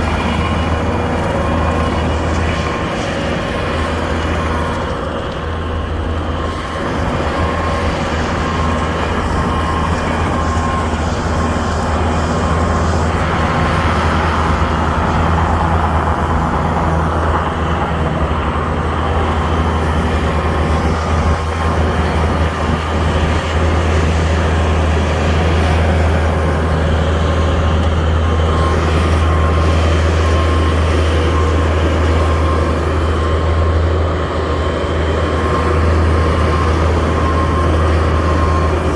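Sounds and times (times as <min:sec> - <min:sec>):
skid steer engine running: 0:00.0 - 0:38.9
thin steady whine: 0:00.0 - 0:38.9.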